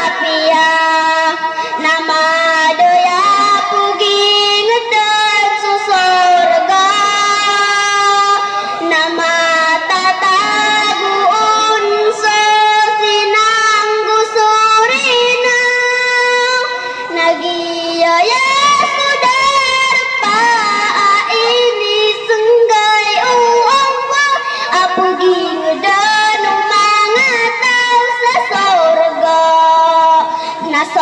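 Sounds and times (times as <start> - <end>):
girl singing into a microphone: 0.0 - 31.0.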